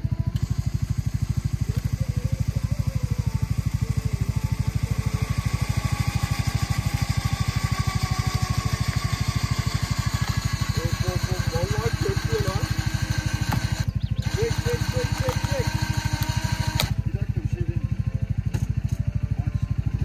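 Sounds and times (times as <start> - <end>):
atv engine idling: 0.0 - 20.0.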